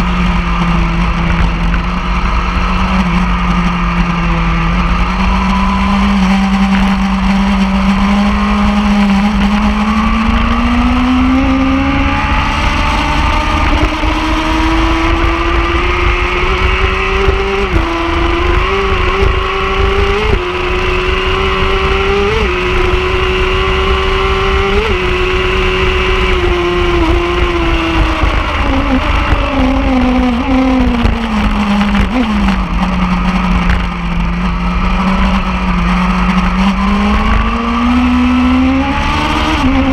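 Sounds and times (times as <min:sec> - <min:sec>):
superbike engine revving: 0:00.0 - 0:39.9.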